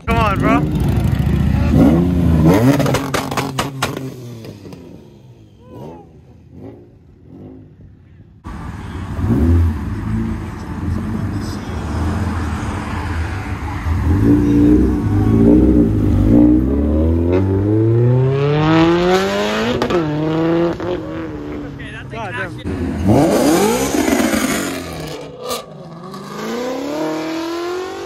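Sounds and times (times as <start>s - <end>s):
car engines accelerating and revving: 0.0s - 28.0s.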